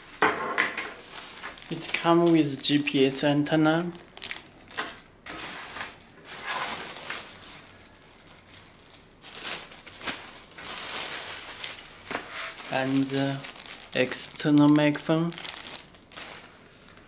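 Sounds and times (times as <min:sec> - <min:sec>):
plastic bags crinkling: 0:00.8 - 0:17.0.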